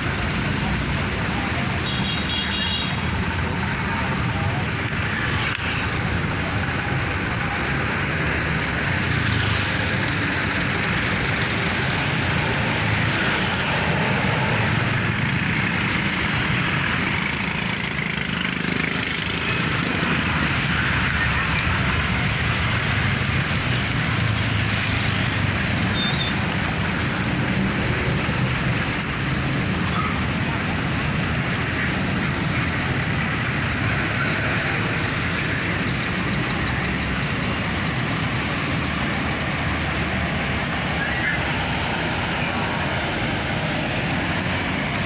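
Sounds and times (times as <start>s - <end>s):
vehicle engines rumbling: 0.0s - 45.0s.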